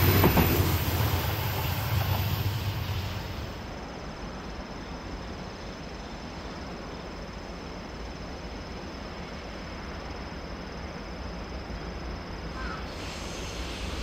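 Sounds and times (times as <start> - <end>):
diesel locomotive engine drone: 0.0 - 14.0.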